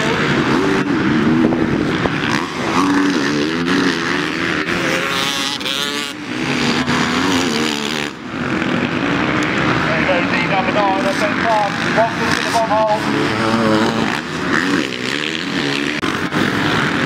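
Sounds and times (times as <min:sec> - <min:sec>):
motorcycle revving sharply: 0:00.0 - 0:17.0
racing motorcycle engines revving: 0:00.0 - 0:17.0.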